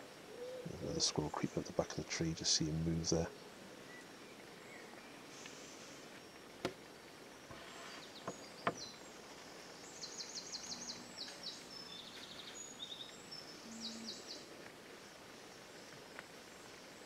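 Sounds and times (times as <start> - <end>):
quiet woodland ambience: 0.0 - 17.0
songbird singing: 0.0 - 17.0.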